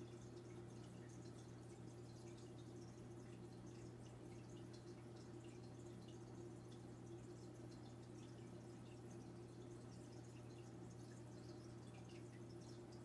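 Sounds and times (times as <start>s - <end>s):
low pump hum: 0.0s - 13.0s
water dripping and trickling: 0.0s - 13.0s.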